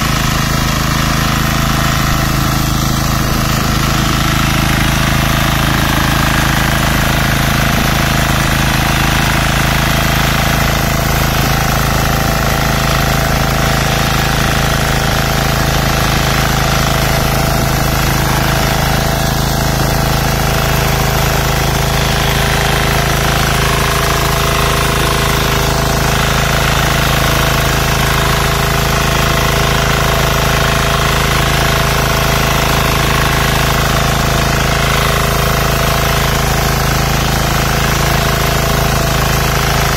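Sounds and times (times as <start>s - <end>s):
power weeder engine running: 0.0s - 39.9s
tines churning mud: 0.0s - 39.9s.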